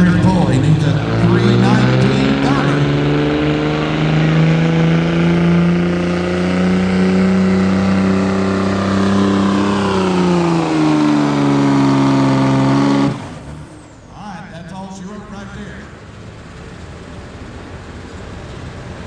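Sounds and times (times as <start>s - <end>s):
diesel truck engine under load: 0.0s - 19.0s.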